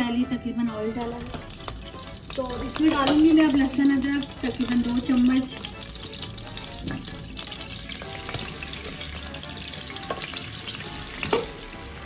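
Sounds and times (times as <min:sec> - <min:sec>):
paste sizzling in hot oil: 0:01.0 - 0:12.0.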